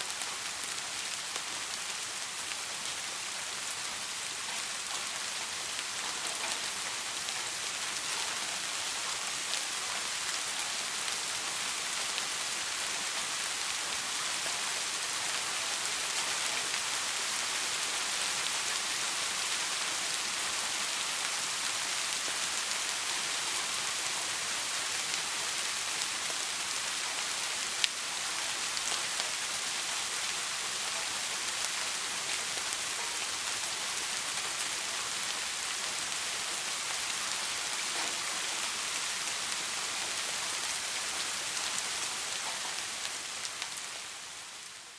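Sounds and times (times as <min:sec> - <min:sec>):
soft rain falling: 0:00.0 - 0:44.9.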